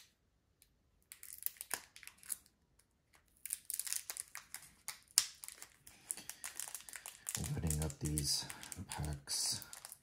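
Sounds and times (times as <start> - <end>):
foil wrapper crinkling: 1.1 - 2.6, 3.2 - 10.0.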